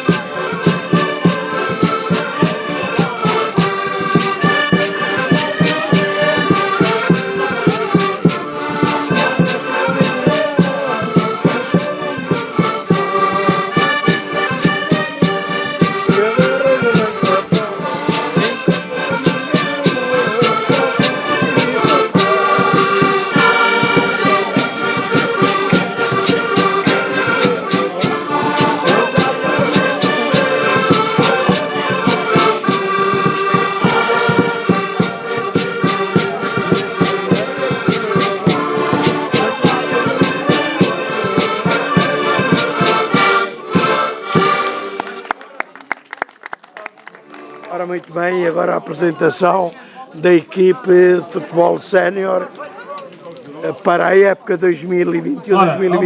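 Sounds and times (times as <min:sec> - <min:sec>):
band playing dance music: 0:00.0 - 0:45.2.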